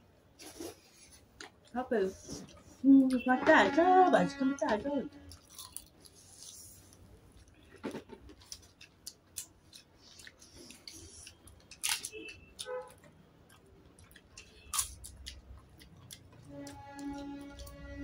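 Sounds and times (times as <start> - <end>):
soft chewing: 0.4 - 2.8, 5.3 - 17.9.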